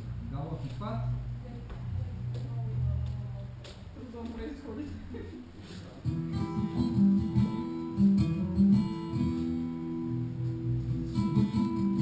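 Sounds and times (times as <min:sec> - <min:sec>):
acoustic guitar dance tune: 0:02.1 - 0:12.0.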